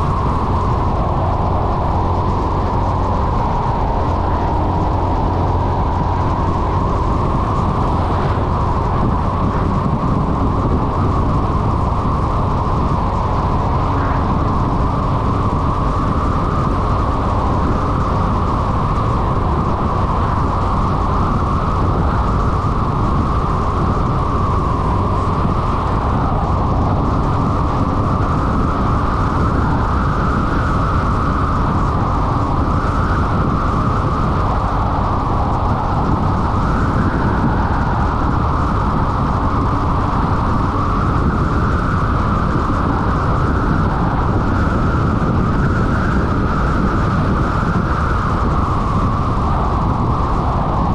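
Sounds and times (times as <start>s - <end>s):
scooter engine and tyre noise: 0.0s - 50.9s
wind rushing on microphone: 0.0s - 50.9s.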